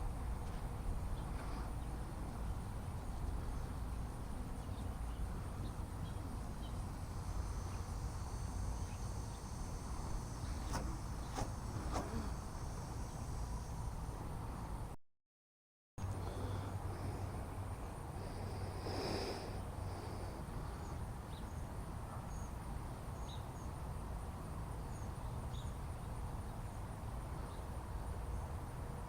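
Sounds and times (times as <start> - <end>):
faint high insect sounds: 0.0 - 15.0, 16.1 - 29.0.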